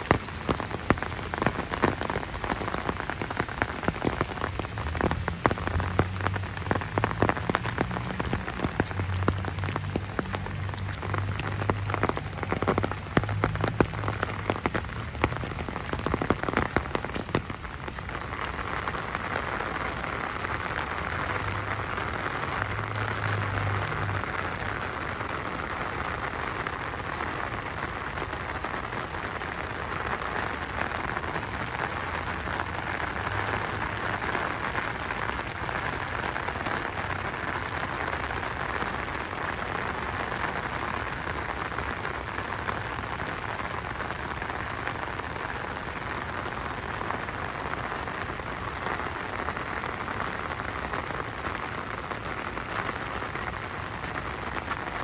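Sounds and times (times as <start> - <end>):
close raindrops tapping: 0.0 - 55.0
rain hissing: 0.0 - 55.0.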